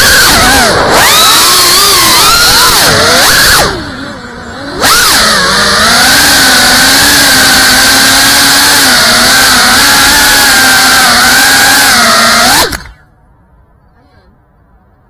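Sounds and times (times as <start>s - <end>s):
drone motors and propellers whining: 0.0s - 13.2s.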